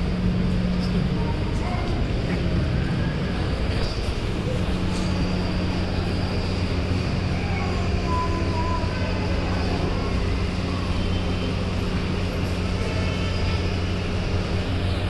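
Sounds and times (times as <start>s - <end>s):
constant background noise: 0.0s - 15.0s
low mechanical hum: 0.0s - 15.0s.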